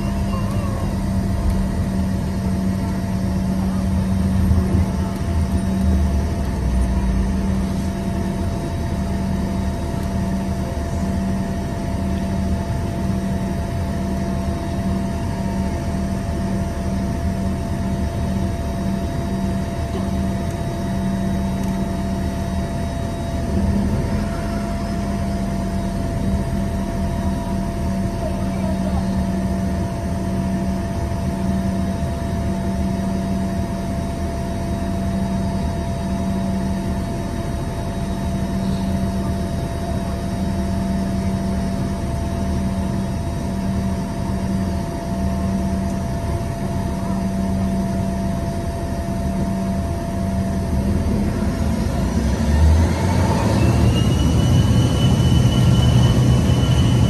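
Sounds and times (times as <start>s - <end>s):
jet cabin engine hum: 0.0s - 57.0s
mid-pitched engine whine: 0.0s - 57.0s.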